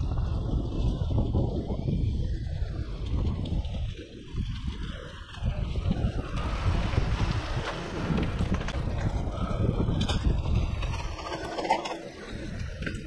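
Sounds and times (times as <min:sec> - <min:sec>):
bike rolling over rough pavement: 0:00.0 - 0:13.0
wind buffeting microphone: 0:00.0 - 0:13.0.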